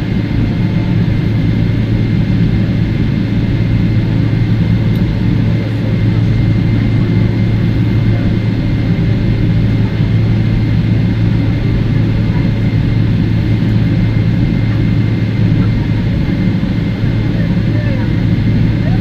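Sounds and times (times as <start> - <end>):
jet engines idling hum: 0.0 - 19.0.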